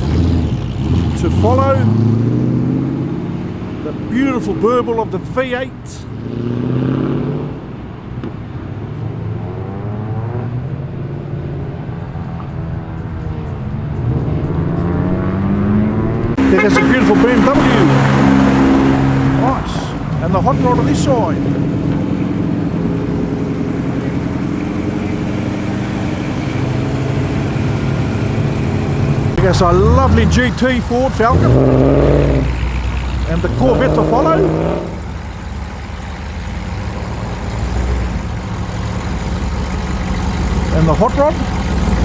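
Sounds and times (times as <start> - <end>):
car engine burbling: 0.0 - 42.0.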